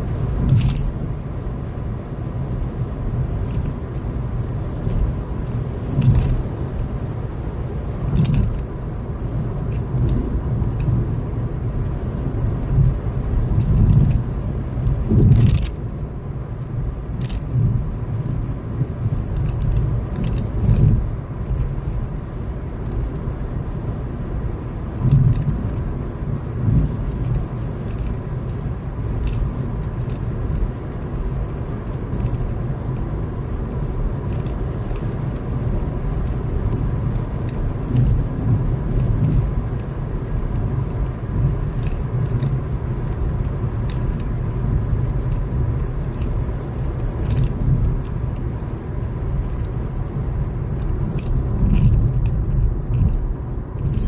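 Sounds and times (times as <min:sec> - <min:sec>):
small rattles and ticks: 0:00.0 - 0:01.0, 0:03.1 - 0:07.2, 0:07.8 - 0:54.0
car engine and tyre rumble: 0:00.0 - 0:54.0.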